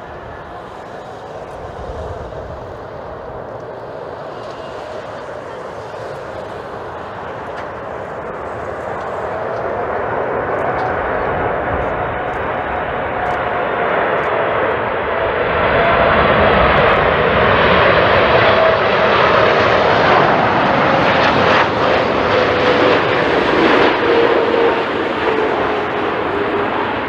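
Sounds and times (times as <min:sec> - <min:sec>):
jet airliner flying past: 0:00.0 - 0:27.0.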